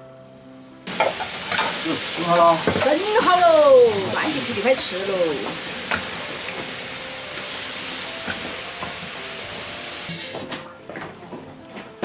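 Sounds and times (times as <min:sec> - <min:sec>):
food sizzling in a wok: 0:00.3 - 0:10.5.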